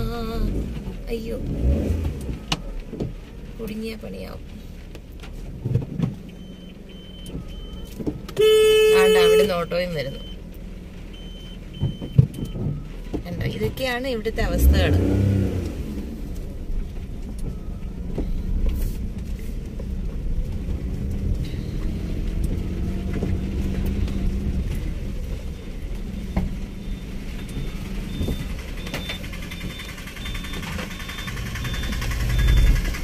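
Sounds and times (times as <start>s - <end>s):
car engine and tyres on wet road: 0.0s - 33.0s.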